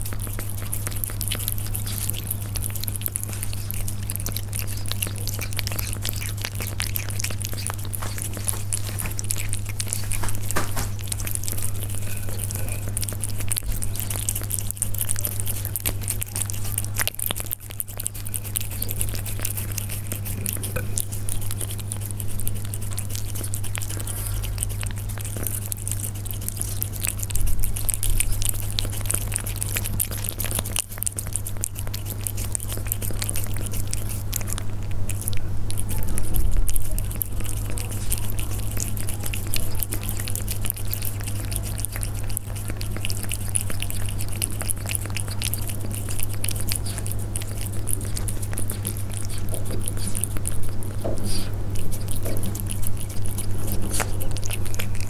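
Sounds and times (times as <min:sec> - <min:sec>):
cats chewing: 0:00.0 - 0:55.0.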